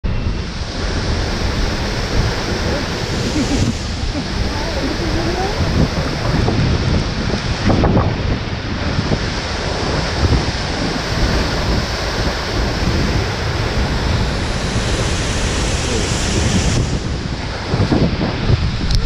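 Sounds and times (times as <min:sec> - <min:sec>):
wind buffeting microphone: 0:00.0 - 0:19.0
waterfall roar: 0:00.1 - 0:19.0.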